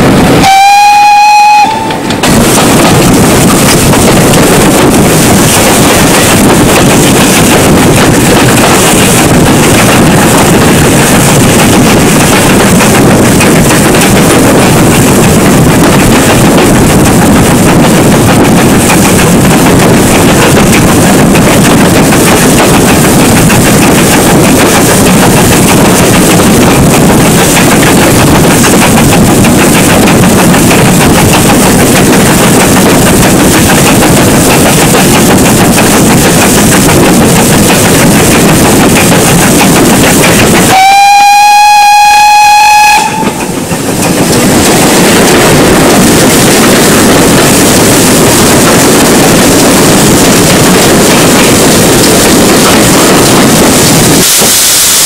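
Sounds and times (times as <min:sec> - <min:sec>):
steam train running: 0:00.0 - 0:55.0.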